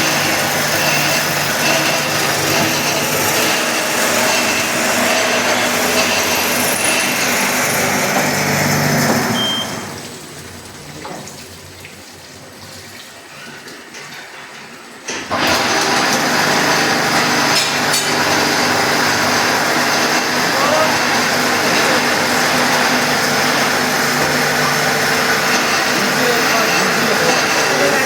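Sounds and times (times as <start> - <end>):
drilling machine humming and hissing: 0.0 - 10.0, 15.3 - 28.0.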